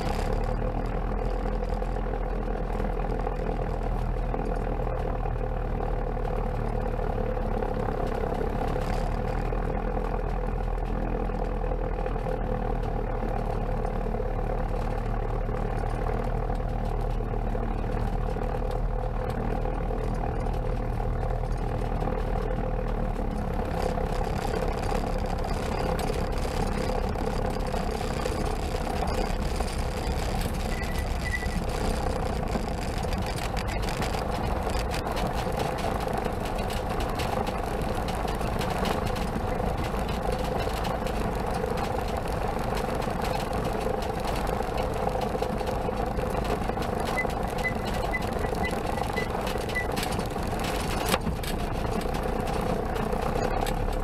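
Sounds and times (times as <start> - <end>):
light aircraft engine running: 0.0 - 54.0.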